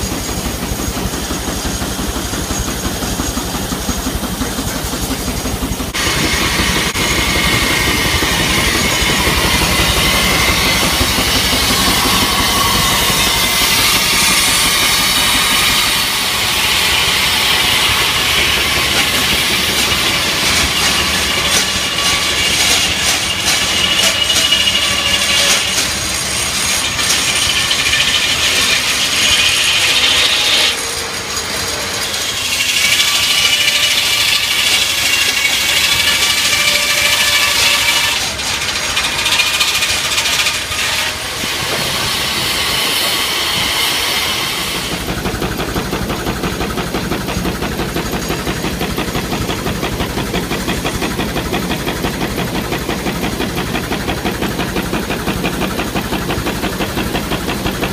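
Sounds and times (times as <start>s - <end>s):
circular saw whining: 0.0s - 57.9s
machinery running: 0.0s - 57.9s.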